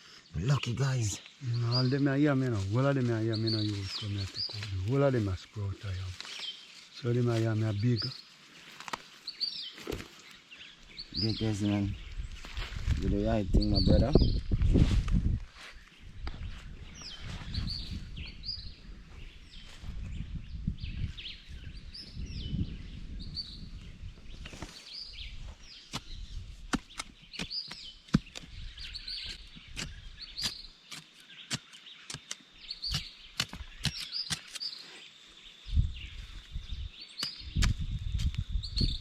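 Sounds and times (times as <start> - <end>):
bird chirping: 0.0 - 14.6, 15.6 - 39.0.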